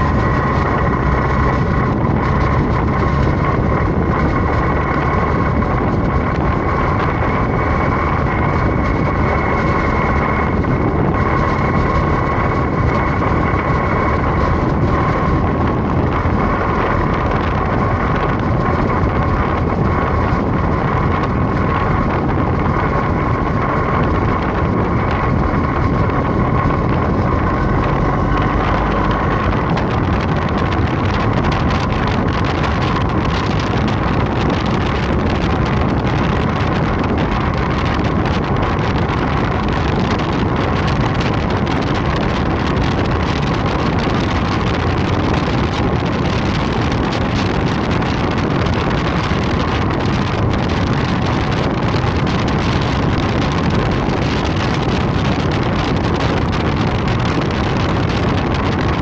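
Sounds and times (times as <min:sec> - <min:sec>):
motorcycle engine riding steadily: 0:00.0 - 0:59.0
wind rushing over microphone: 0:00.0 - 0:59.0.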